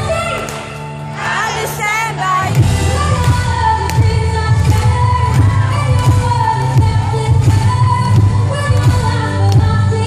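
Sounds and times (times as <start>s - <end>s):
loud amplified music with bass: 0.0s - 10.0s
woman singing into microphone: 1.2s - 10.0s.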